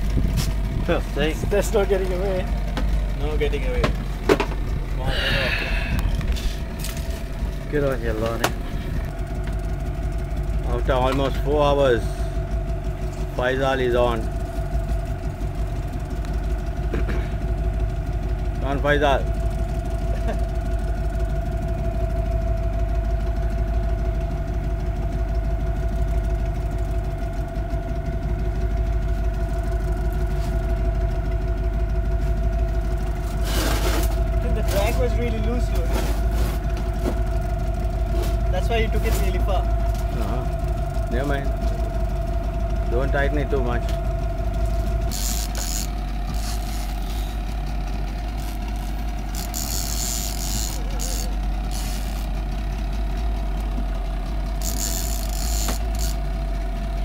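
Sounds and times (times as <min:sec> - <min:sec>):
boat engine rumbling: 0:00.0 - 0:57.0.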